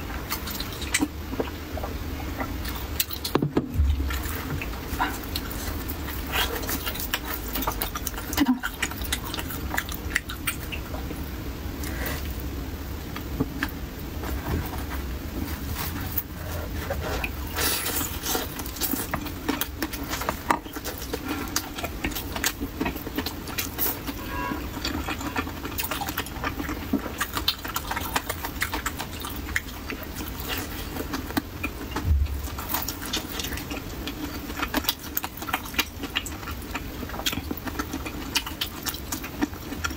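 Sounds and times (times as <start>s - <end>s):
person chewing soft food: 0.0s - 39.9s
steady low hum: 0.0s - 39.9s.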